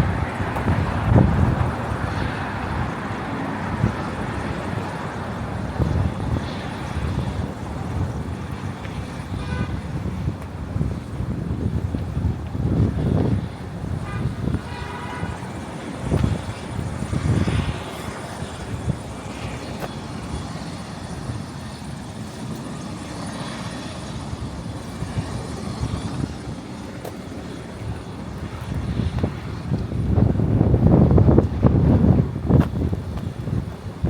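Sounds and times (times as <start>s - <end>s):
traffic rumble: 0.0s - 34.0s
wind gusting on microphone: 0.0s - 34.0s.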